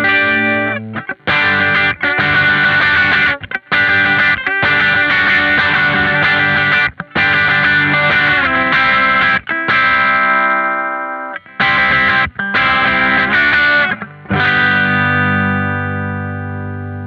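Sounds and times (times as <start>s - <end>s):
overdriven electric guitar chords: 0.0s - 17.0s.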